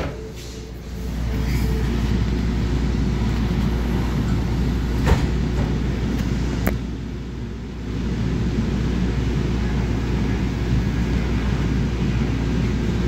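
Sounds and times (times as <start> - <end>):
train interior rumble and hum: 0.0 - 13.0.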